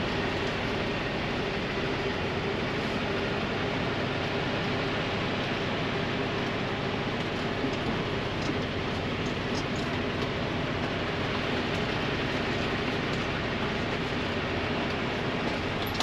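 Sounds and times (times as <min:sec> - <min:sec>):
diesel truck engine running low: 0:00.0 - 0:16.0.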